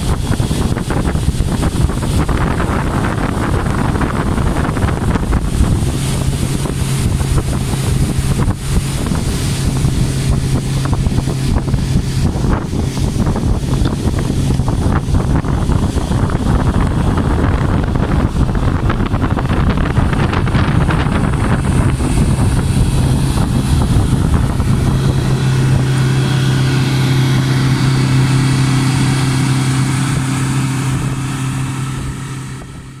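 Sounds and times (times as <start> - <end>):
boat motor droning: 0.0 - 33.0
wind rumbling on microphone: 0.0 - 33.0.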